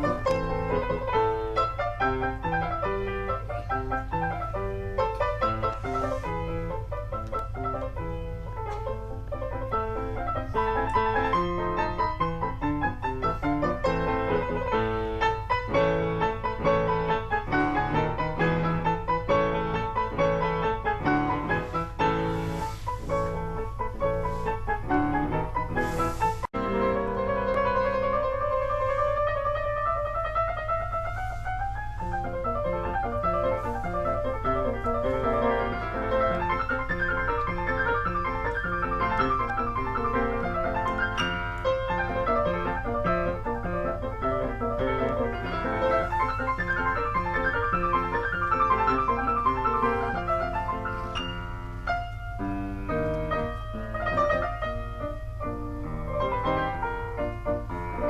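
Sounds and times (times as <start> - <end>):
solo piano piece: 0.0 - 58.0.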